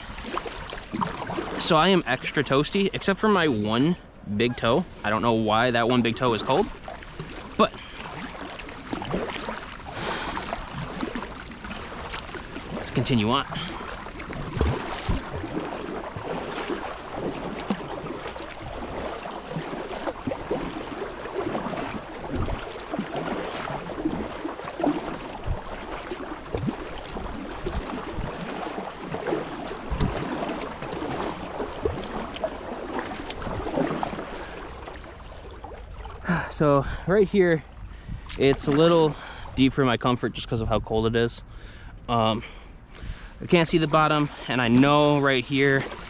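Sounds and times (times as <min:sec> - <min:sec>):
paddle splashing in water: 0:00.0 - 0:36.5, 0:37.7 - 0:39.7, 0:43.0 - 0:46.0
water lapping against hull: 0:00.0 - 0:46.0.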